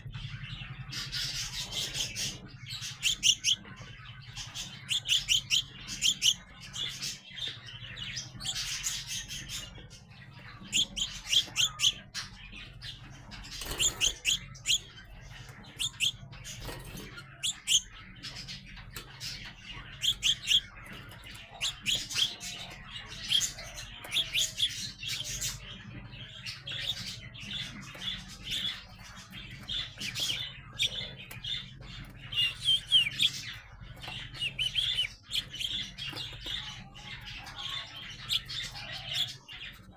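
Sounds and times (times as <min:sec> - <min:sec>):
young sparrows chirping: 0:00.0 - 0:39.9.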